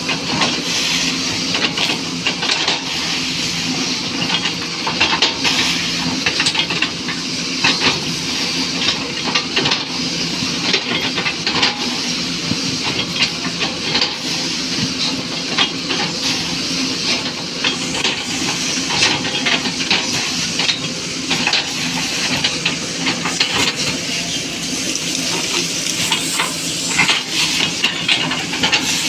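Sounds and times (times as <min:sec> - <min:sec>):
excavator engine running: 0:00.0 - 0:29.0.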